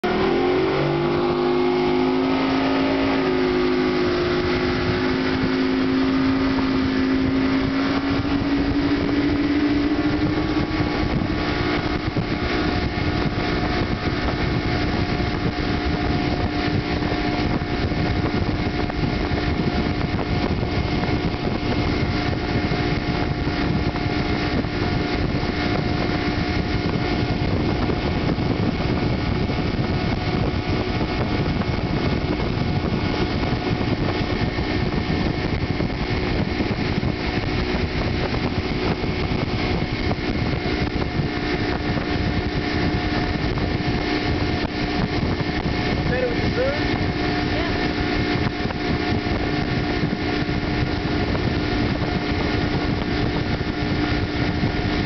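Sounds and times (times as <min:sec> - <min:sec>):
outboard motor accelerating: 0:00.0 - 0:55.0
rush of wind and water: 0:00.0 - 0:55.0.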